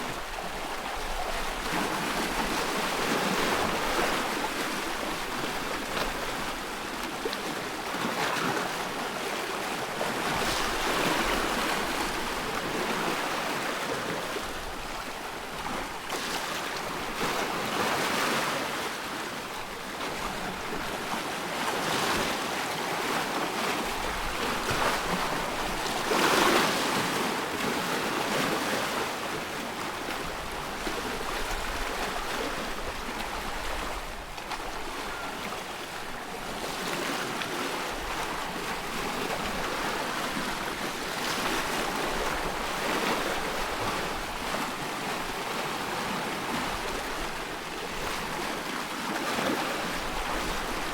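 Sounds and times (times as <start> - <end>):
small waves lapping: 0.0 - 50.9.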